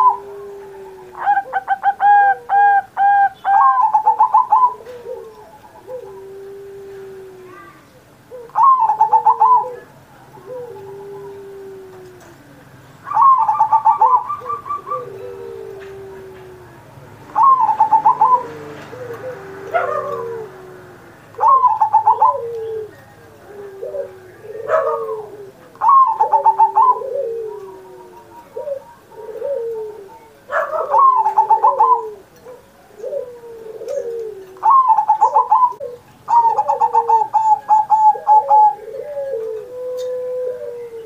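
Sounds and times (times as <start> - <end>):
dove cooing song: 0.0 - 41.0.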